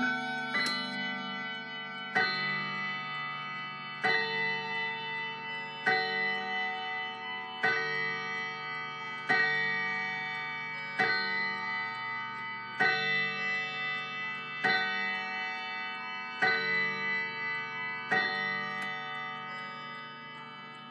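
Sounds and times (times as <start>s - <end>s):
mantel clock striking: 0.0s - 20.9s.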